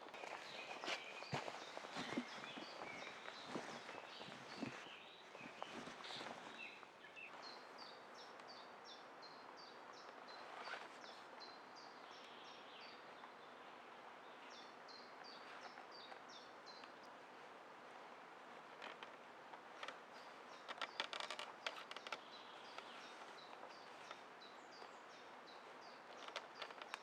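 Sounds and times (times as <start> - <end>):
faint outdoor ambience: 0.0 - 27.0.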